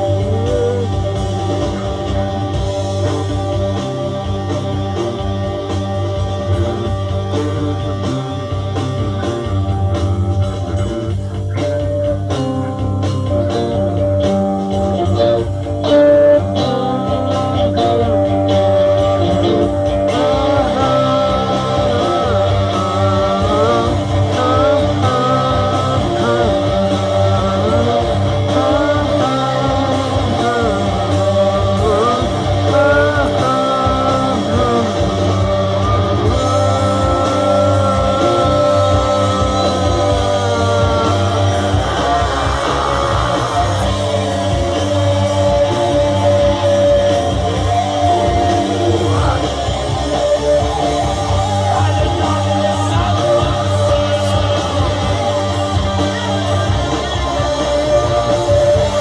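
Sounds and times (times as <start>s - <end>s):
person singing: 0.0s - 59.0s
rock music with guitar: 0.0s - 59.0s.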